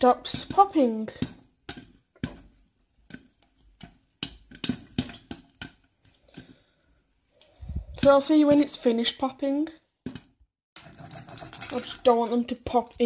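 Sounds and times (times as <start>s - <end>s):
popcorn popping in saucepan: 0.0s - 7.4s, 8.0s - 13.0s.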